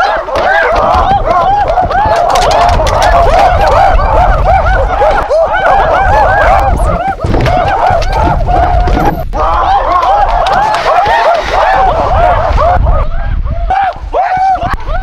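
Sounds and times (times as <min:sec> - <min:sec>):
ape-like hoots and shrieks: 0:00.0 - 0:14.8.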